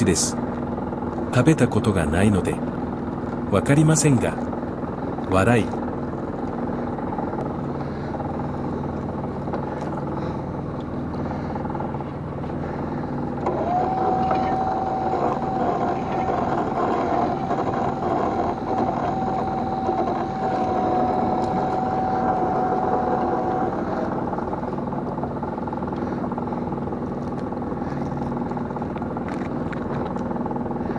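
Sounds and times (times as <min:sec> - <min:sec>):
boat engine running: 0:00.0 - 0:30.9
mechanical whine: 0:00.0 - 0:30.9.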